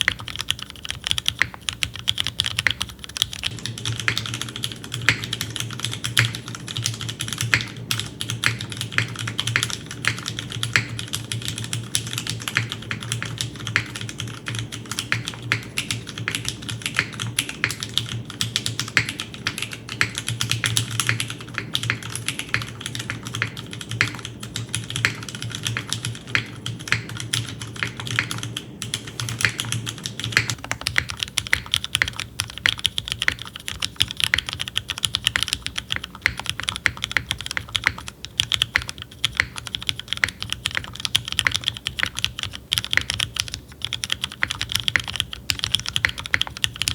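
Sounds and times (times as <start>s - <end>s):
mechanical keyboard typing: 0.0s - 46.9s.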